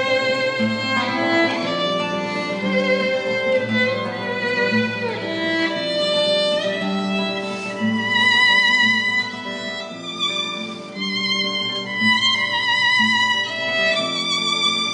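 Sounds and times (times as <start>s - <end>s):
string ensemble bowed notes: 0.0s - 14.9s.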